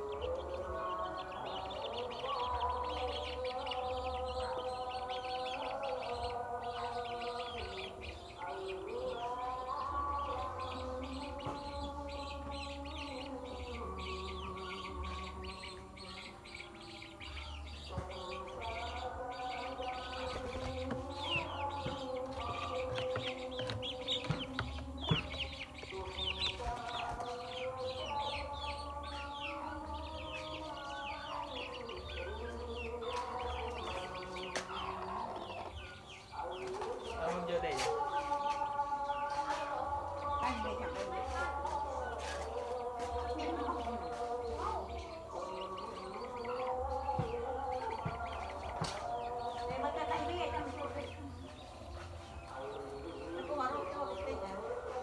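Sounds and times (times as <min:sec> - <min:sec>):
background music with held notes: 0:00.0 - 0:55.0
chicks peeping: 0:00.0 - 0:55.0.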